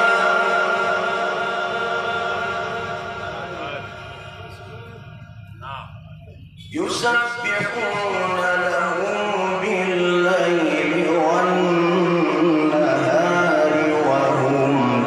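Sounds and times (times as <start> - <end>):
man reciting melodically: 2.0 - 15.0.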